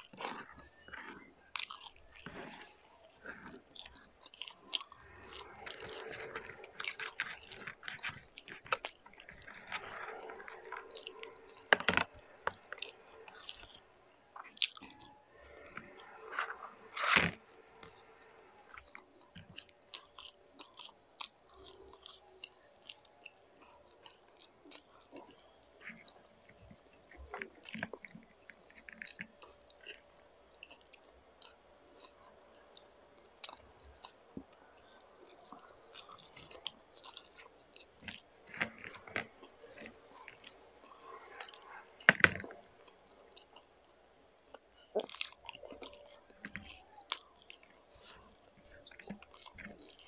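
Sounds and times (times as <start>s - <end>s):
person chewing and biting food: 0.0s - 50.0s.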